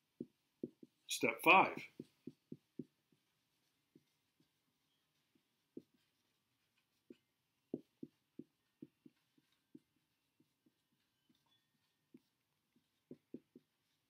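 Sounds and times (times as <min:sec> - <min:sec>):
marker tapping on a whiteboard: 0:00.0 - 0:14.0.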